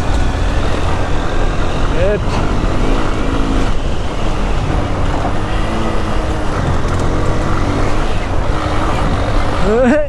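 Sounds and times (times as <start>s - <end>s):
loud rushing noise: 0.0s - 10.0s
motorcycle engine running: 0.0s - 10.0s.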